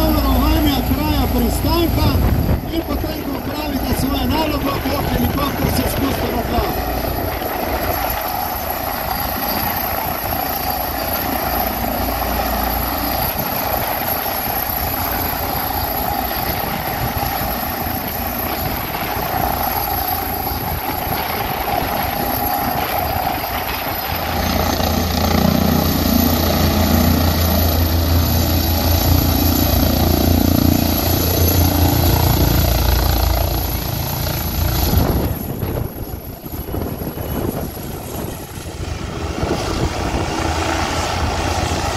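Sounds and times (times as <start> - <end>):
helicopter rotor and turbine: 0.0 - 41.9.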